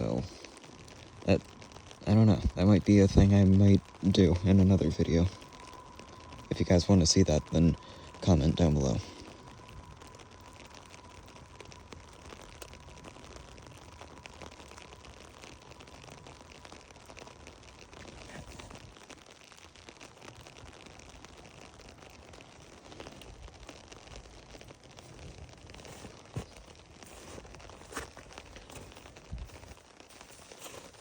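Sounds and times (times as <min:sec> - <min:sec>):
rain on an umbrella: 0:00.0 - 0:31.0.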